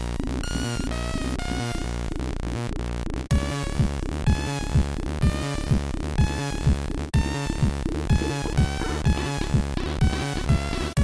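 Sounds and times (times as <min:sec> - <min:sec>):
buzzy synth lines: 0:00.0 - 0:11.0
electronic chiptune music: 0:00.0 - 0:11.0
synthesized kick drum: 0:00.0 - 0:11.0.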